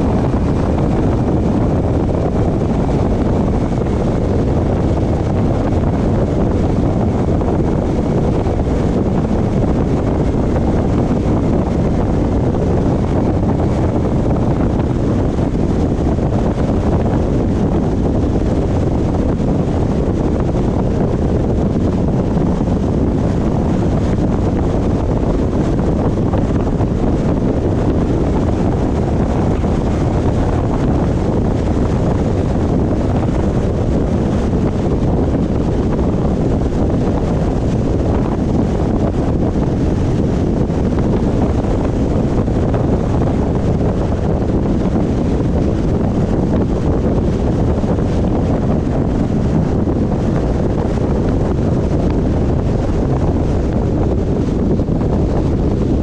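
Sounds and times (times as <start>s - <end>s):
car wind and road noise: 0.0s - 56.0s
wind on microphone: 0.0s - 56.0s.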